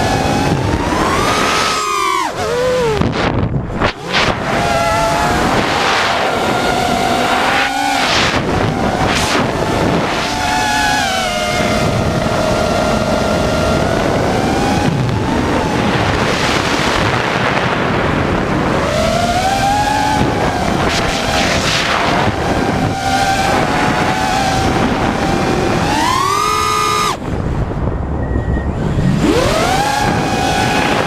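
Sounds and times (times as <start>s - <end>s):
drone motors whining: 0.0s - 31.0s
wind noise: 0.0s - 31.0s.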